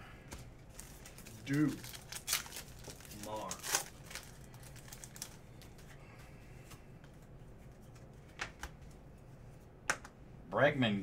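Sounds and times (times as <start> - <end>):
trading cards handling: 0.3 - 9.2.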